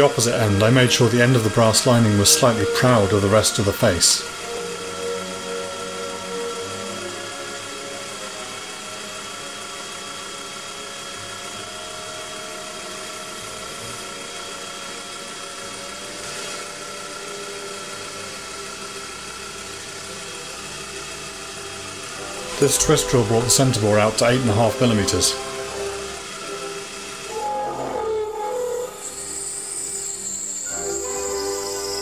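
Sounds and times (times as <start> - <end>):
mini lathe cutting: 0.0 - 32.0.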